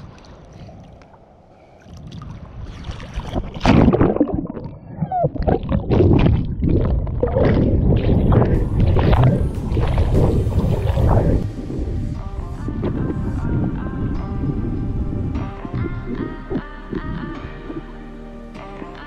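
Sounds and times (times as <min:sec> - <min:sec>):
muffled underwater rush: 0:00.0 - 0:18.1
gurgling bubbles: 0:01.8 - 0:12.1, 0:12.7 - 0:17.9.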